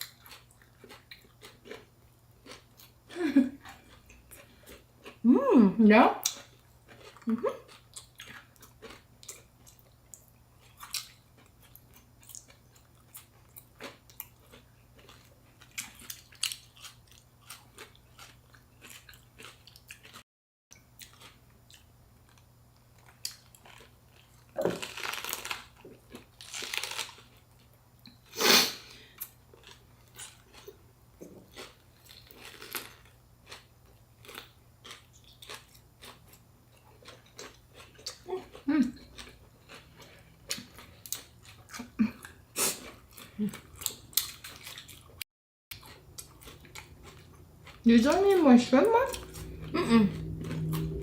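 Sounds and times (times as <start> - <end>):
chewing and crunching: 0.0 - 5.3, 6.2 - 28.3, 29.0 - 51.0.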